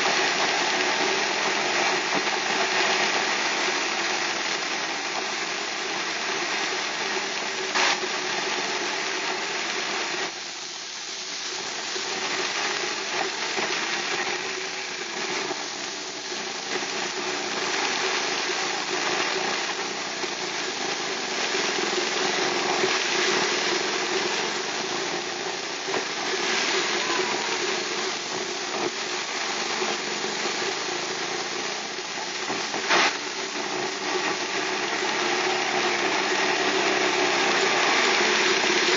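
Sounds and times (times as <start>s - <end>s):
rain and tyre spray hiss: 0.0s - 38.9s.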